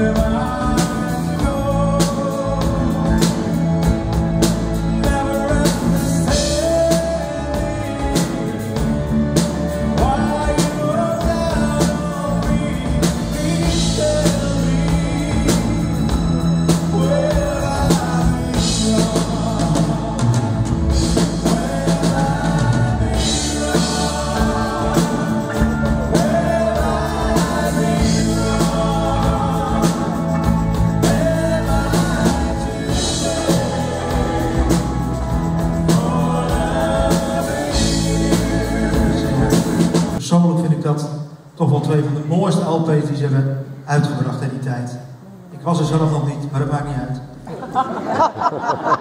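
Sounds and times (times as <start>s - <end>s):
man singing lead: 0.0s - 40.2s
pop-rock band playing: 0.0s - 40.2s.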